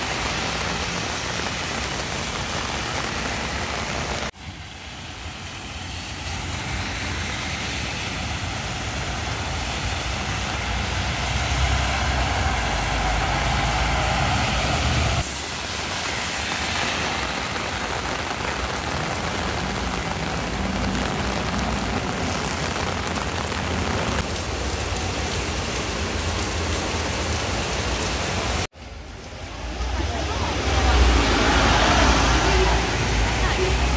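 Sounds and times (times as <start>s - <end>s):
heavy rain on a wet road: 0.0s - 33.9s
low traffic rumble: 0.0s - 33.9s.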